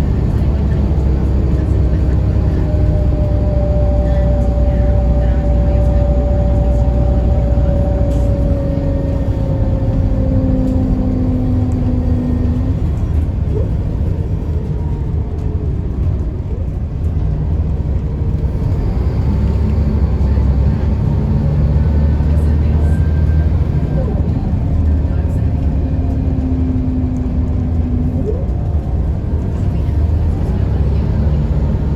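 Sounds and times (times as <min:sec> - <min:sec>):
bus engine whine: 0:00.0 - 0:31.9.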